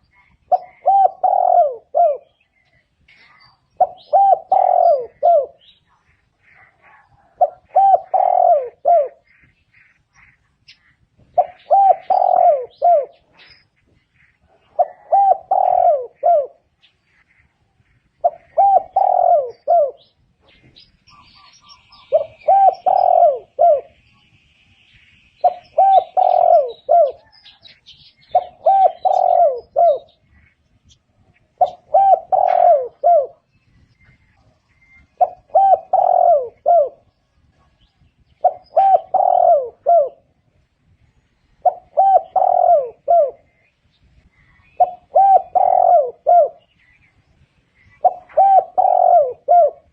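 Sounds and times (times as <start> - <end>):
dove cooing: 0.0 - 17.3, 18.0 - 24.0, 25.4 - 40.7, 41.6 - 47.2, 47.8 - 49.9.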